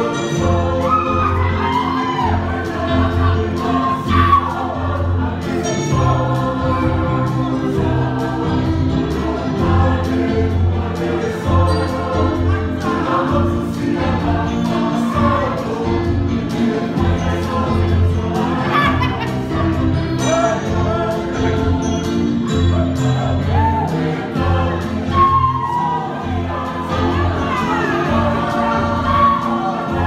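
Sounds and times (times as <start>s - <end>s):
group singing in harmony: 0.0s - 30.0s.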